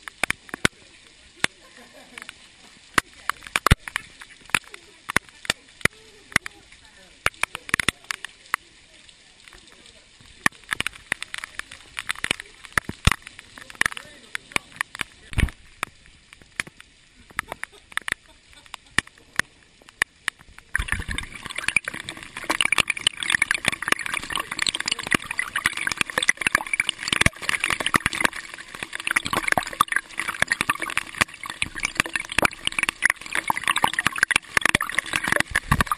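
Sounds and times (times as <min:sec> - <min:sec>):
heavy rain downpour: 0:00.0 - 0:35.9
raindrops tapping: 0:00.0 - 0:35.9.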